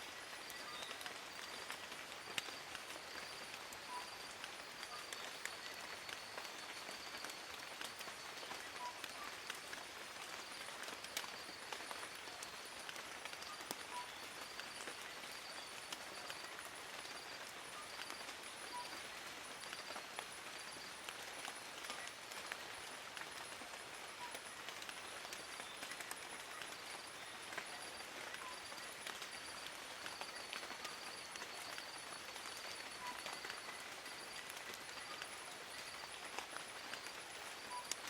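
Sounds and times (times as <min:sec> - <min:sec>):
rain on foliage: 0:00.0 - 0:38.0.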